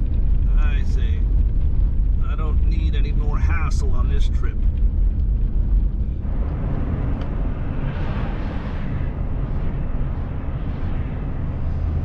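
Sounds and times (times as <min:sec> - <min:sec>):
road and wind noise hiss: 0:00.0 - 0:12.0
truck engine rumble: 0:00.0 - 0:12.0.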